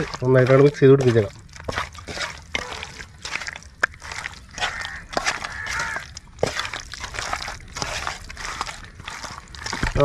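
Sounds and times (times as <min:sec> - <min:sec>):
hand squelching wet food: 0:00.0 - 0:10.0.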